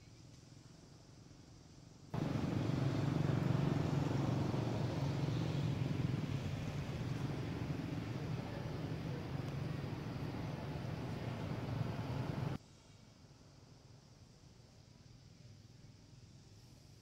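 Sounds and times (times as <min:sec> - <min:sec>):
vehicle low rumble with hiss: 0:00.0 - 0:17.0.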